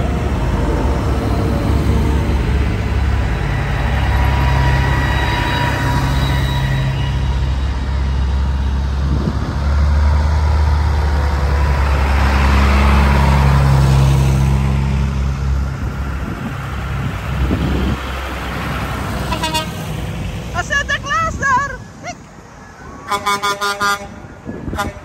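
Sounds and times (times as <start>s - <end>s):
tractor engines driving past: 0.0s - 25.0s.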